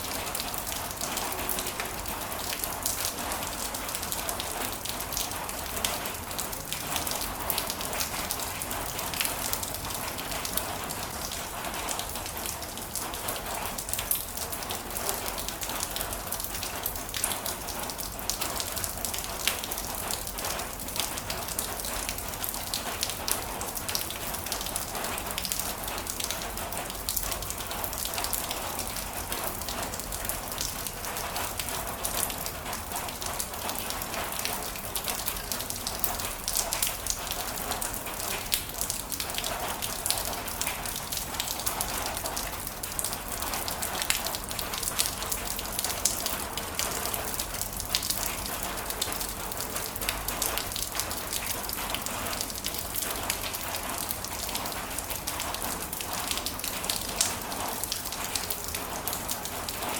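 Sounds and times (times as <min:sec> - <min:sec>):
heavy rain on a hard surface: 0:00.0 - 0:59.9.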